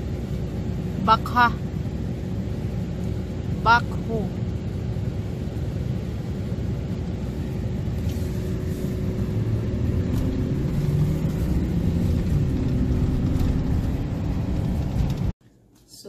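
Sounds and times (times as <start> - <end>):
car engine and tyres rumbling: 0.0 - 15.4.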